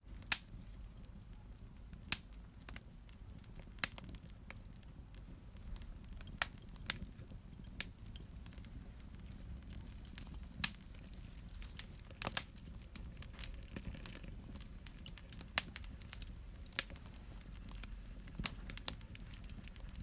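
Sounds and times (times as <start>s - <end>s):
low rumble of flame: 0.0s - 20.0s
wood fire crackling: 0.0s - 20.0s
fire pops: 0.1s - 20.0s.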